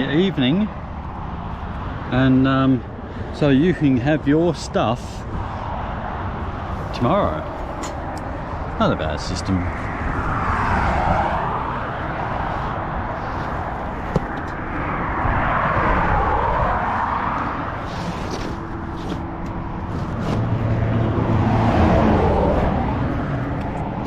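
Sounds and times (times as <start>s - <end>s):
low engine hum: 0.0s - 24.0s
vehicles passing: 0.0s - 24.0s.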